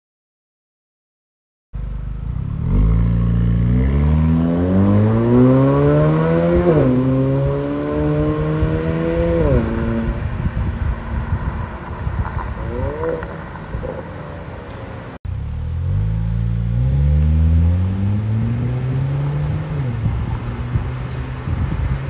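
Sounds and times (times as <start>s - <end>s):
car engine accelerating hard: 1.8s - 22.0s.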